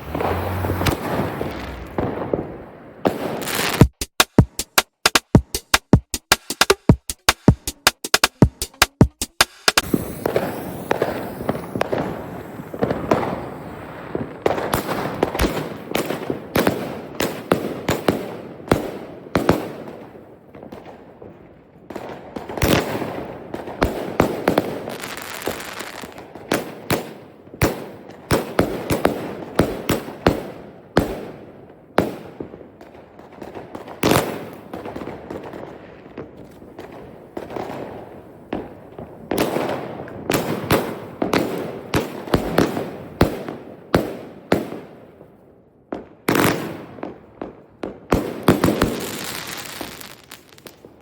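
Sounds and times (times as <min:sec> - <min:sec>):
fireworks crackling and popping: 0:00.0 - 0:44.9, 0:46.3 - 0:51.0
fireworks bangs: 0:00.0 - 0:51.0.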